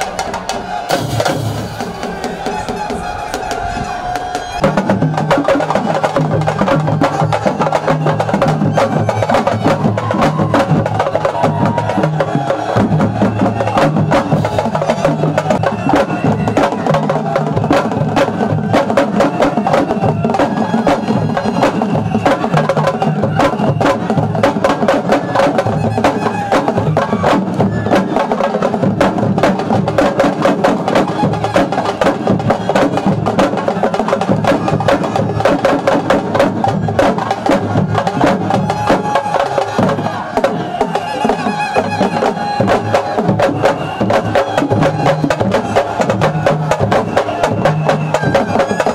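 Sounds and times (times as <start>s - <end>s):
fast dense drumming: 0.0s - 48.9s.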